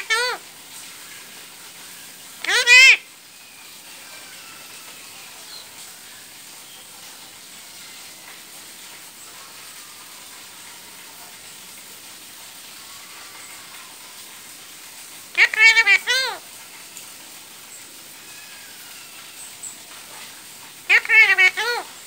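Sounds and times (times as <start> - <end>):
low outdoor hiss: 0.0 - 22.0.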